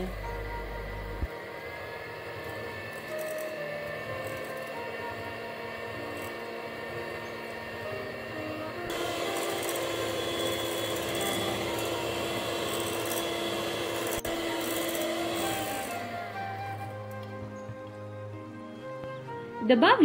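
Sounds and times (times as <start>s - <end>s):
electric hand mixer whirring: 0.0s - 19.1s.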